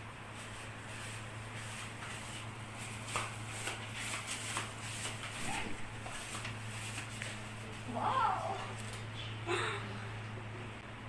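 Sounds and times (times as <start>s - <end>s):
steady low hum: 0.0s - 11.0s
rustling and shuffling: 0.2s - 9.4s.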